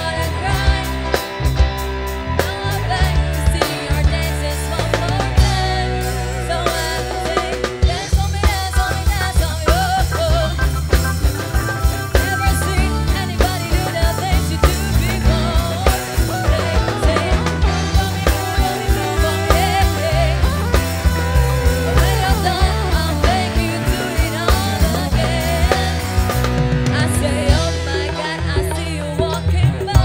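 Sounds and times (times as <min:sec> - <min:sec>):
woman singing into a microphone: 0:00.0 - 0:01.6, 0:02.3 - 0:10.8, 0:12.1 - 0:30.0
live band playing: 0:00.0 - 0:30.0
steady drum beat: 0:00.0 - 0:30.0.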